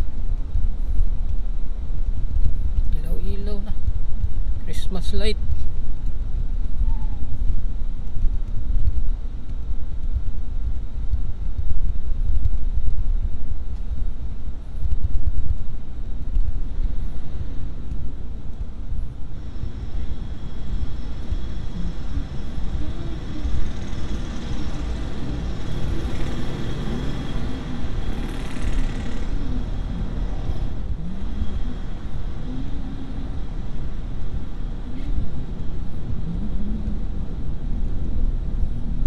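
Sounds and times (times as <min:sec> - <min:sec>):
traffic rumble inside moving car: 0:00.0 - 0:28.3, 0:29.2 - 0:39.0.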